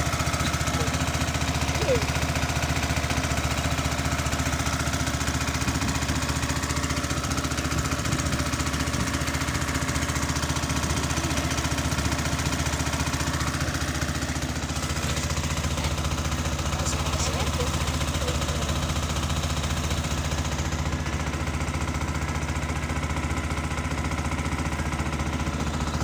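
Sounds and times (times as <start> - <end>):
boat engine chugging: 0.0 - 26.0.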